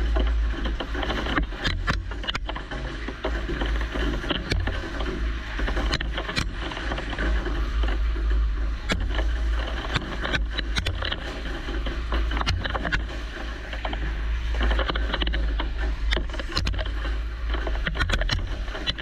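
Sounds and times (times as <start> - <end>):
milling machine low rumble: 0.0 - 19.0.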